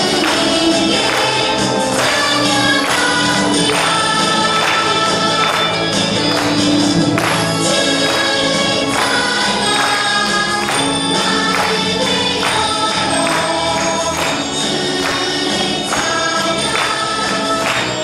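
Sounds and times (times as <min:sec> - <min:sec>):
group singing praise song: 0:00.0 - 0:18.0.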